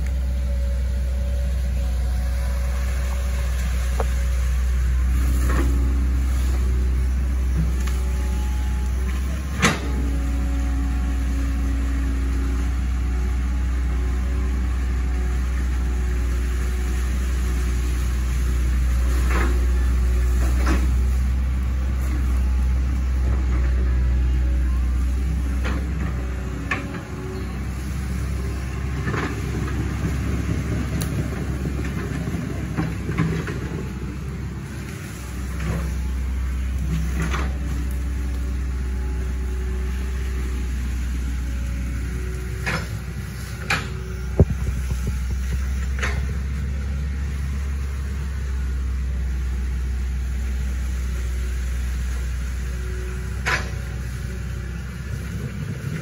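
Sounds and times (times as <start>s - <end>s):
excavator diesel engine rumbling: 0.0s - 56.0s.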